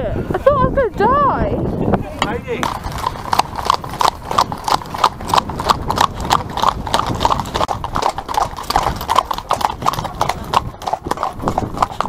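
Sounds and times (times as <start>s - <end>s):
horse hooves clip-clopping on tarmac: 2.1s - 12.0s.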